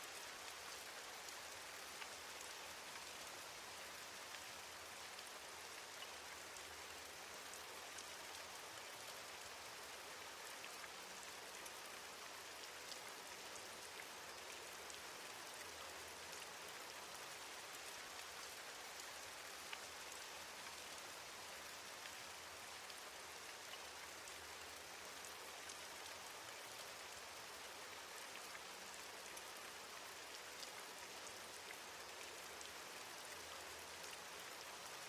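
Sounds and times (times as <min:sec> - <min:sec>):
steady rain hissing: 0:00.0 - 0:35.0.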